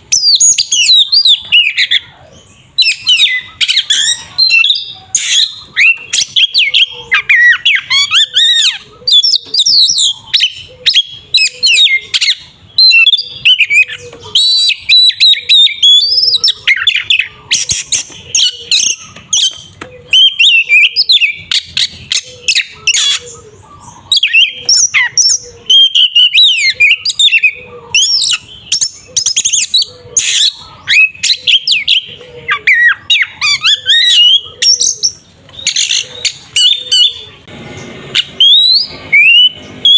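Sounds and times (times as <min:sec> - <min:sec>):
bird singing whistles and chirps: 0:00.0 - 0:37.5, 0:38.1 - 0:39.9.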